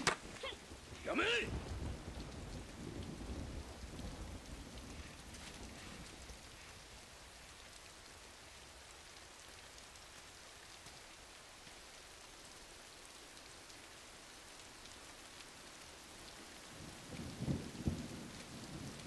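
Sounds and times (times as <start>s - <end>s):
rain on ground: 0.0s - 19.0s.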